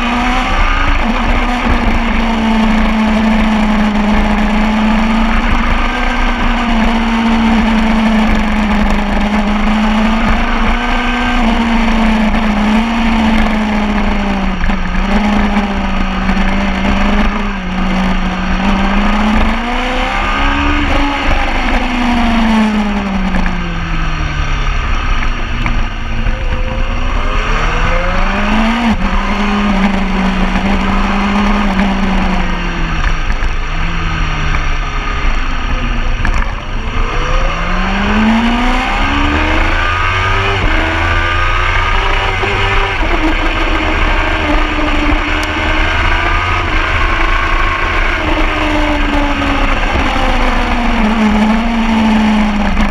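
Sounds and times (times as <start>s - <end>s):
motorcycle engine revving hard: 0.0s - 52.9s.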